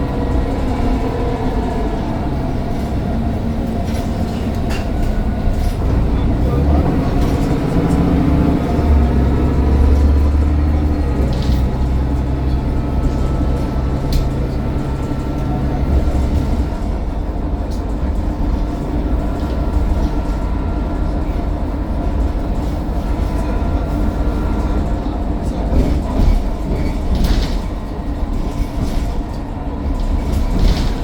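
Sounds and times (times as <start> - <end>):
bus engine drone: 0.0 - 31.0.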